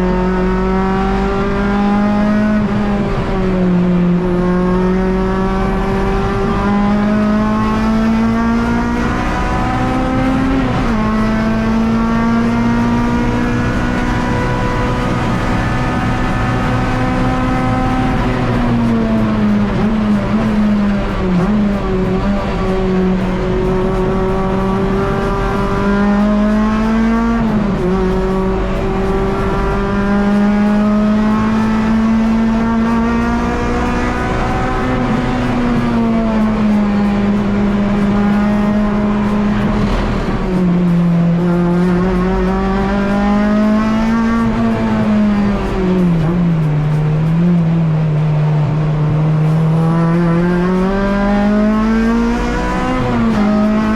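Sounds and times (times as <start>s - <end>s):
race car engine at high revs: 0.0s - 53.9s.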